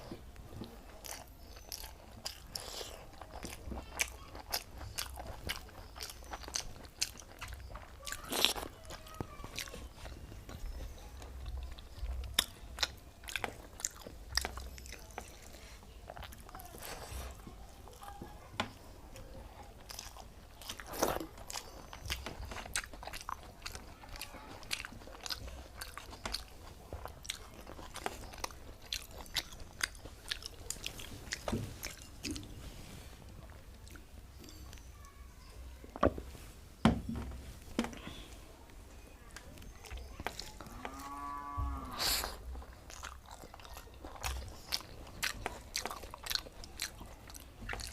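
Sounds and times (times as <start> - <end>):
person chewing food: 0.0 - 35.2, 39.2 - 47.9.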